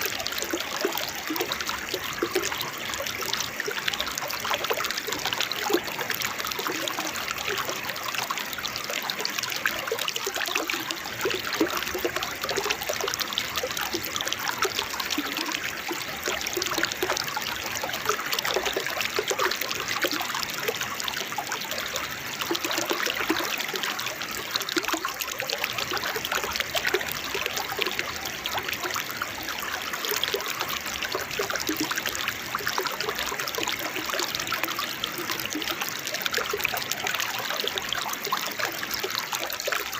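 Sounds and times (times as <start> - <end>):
waterfall trickling and splashing: 0.0 - 39.9.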